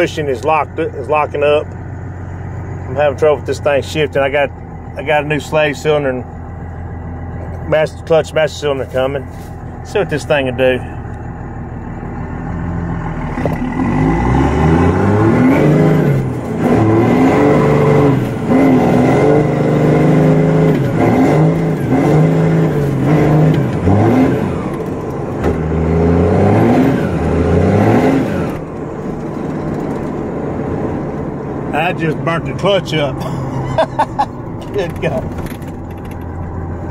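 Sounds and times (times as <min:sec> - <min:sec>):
diesel pickup engine revving: 0:00.0 - 0:36.9.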